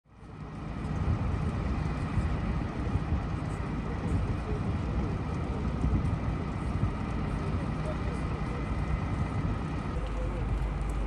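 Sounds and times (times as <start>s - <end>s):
low uneven street rumble: 0.1s - 11.0s.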